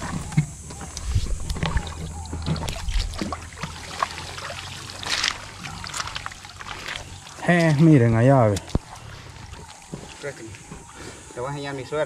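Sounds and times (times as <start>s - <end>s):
river water splashing: 0.0s - 12.0s.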